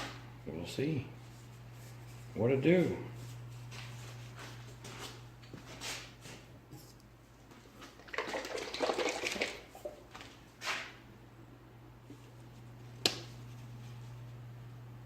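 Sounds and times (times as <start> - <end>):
steady low hum: 0.0 - 7.8, 9.6 - 15.0.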